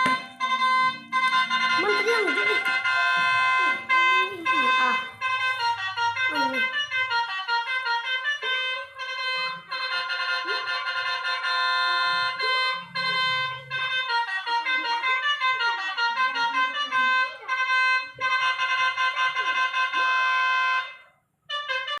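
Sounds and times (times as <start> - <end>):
musical bus horn playing a tune: 0.0 - 22.0.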